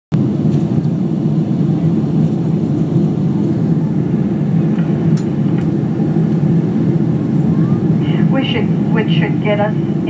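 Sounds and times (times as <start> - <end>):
jet cabin engine drone: 0.1 - 10.0.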